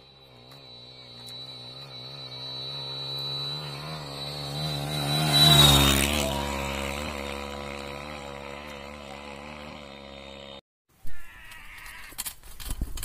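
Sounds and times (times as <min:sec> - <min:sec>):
motorcycle engines running: 0:00.0 - 0:10.6.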